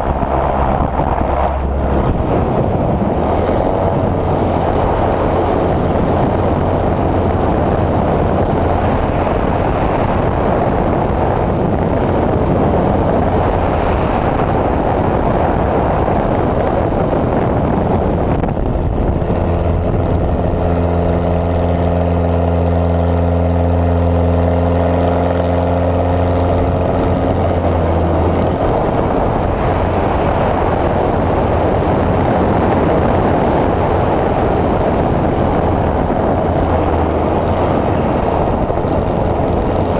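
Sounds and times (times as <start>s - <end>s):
biplane engine and propeller: 0.0s - 39.9s
rushing airflow noise: 0.0s - 39.9s.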